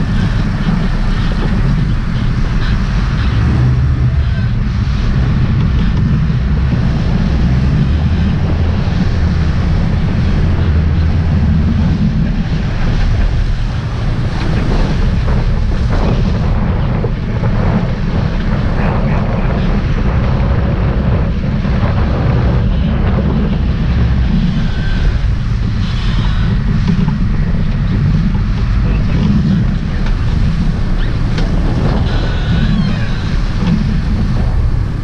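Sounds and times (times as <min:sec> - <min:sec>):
boat engines rumbling: 0:00.0 - 0:35.0
water churning: 0:00.0 - 0:35.0
wind buffeting microphone: 0:00.0 - 0:35.0.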